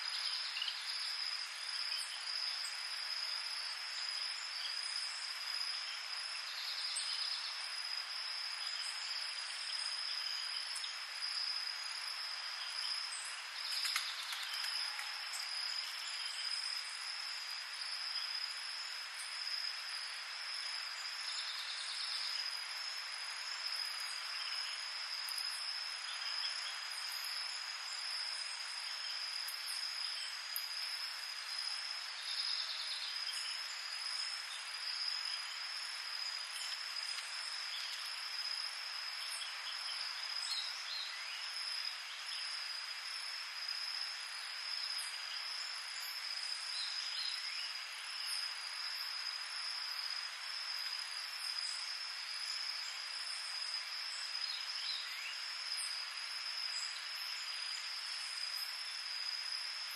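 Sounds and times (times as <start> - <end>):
dense insect hiss: 0.0 - 59.9.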